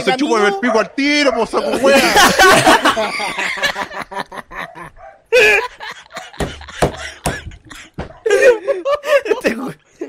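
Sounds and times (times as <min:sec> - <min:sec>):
men laughing and snickering: 0:01.4 - 0:10.0.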